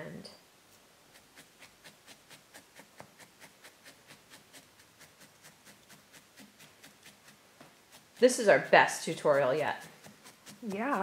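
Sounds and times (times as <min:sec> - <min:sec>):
felting needle stabbing wool: 0:01.0 - 0:11.0.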